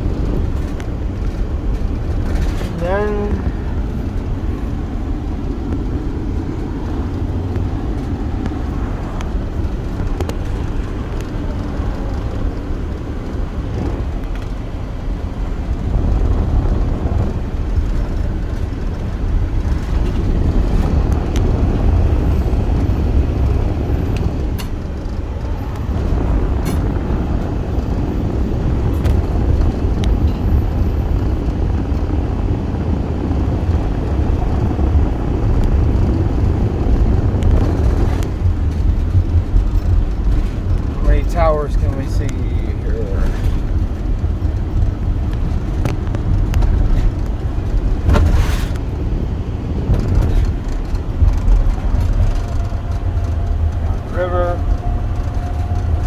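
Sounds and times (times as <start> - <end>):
vehicle rumble and road noise: 0.0 - 56.0.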